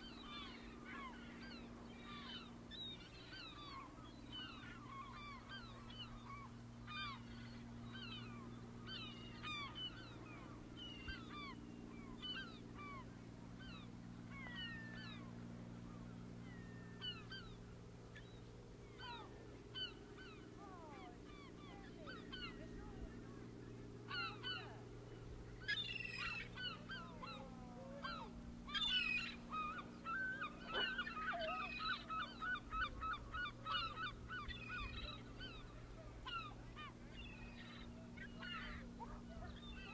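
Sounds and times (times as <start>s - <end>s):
birds calling: 0.0s - 39.9s
low engine hum: 0.0s - 39.9s.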